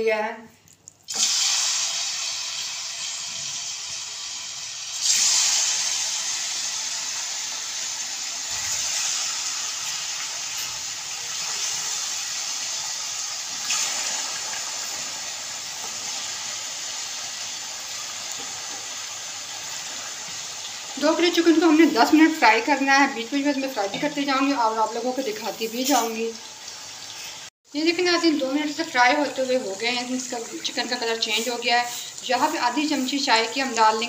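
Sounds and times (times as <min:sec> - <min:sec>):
chicken sizzling in hot oil: 0:01.1 - 0:34.0.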